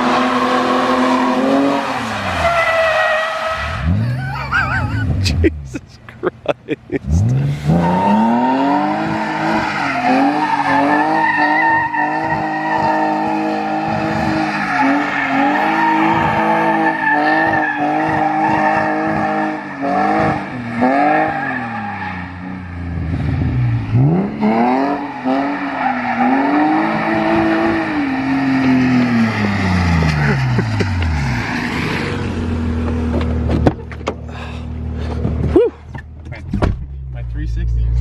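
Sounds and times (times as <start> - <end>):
tires squealing and skidding: 0.0 - 5.2, 7.1 - 34.0
car engine revving: 0.0 - 35.5.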